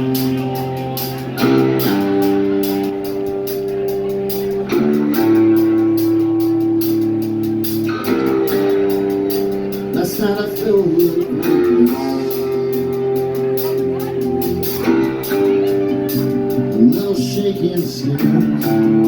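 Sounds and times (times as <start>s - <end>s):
guitar chords: 0.0s - 19.0s
high ticking beat: 0.0s - 19.0s.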